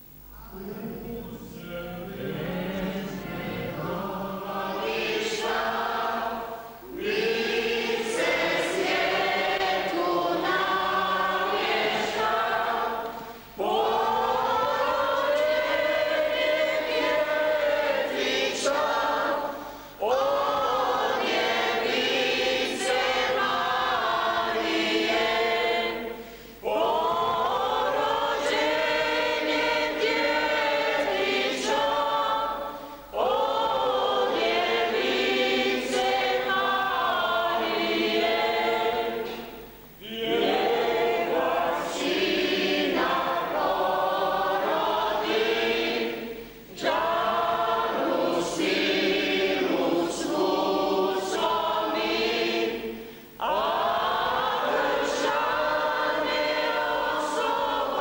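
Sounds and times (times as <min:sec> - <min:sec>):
congregation singing: 0:00.0 - 0:58.0.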